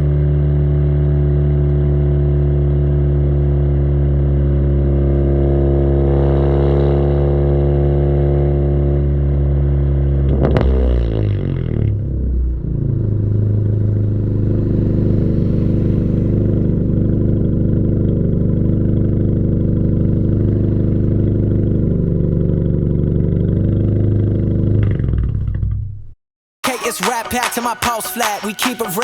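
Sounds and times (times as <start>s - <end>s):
car engine droning: 0.0s - 26.2s.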